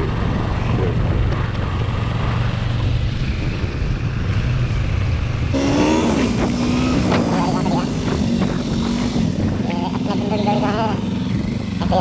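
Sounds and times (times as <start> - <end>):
motorcycle engine running: 0.0 - 12.0
pitched engine hum: 0.0 - 12.0
wind noise on microphone: 0.0 - 12.0.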